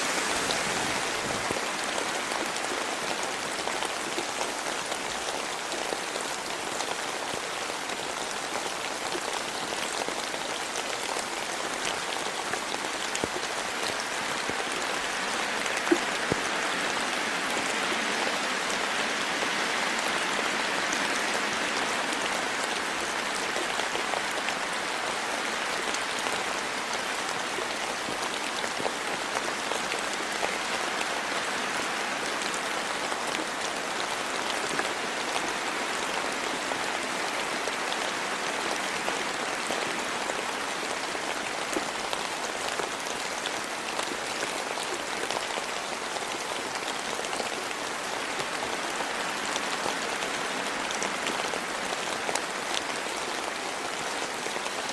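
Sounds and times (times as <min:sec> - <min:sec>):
rain falling in a forest: 0:00.0 - 0:54.9.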